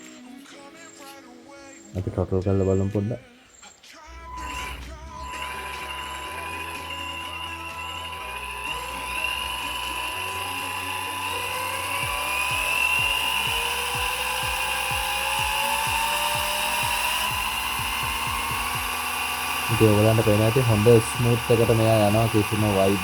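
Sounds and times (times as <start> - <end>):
electric motor whine: 4.1 - 23.0.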